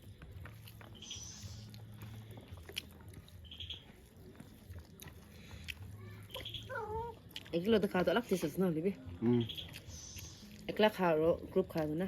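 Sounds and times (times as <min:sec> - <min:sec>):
people chewing food: 0:00.0 - 0:12.0.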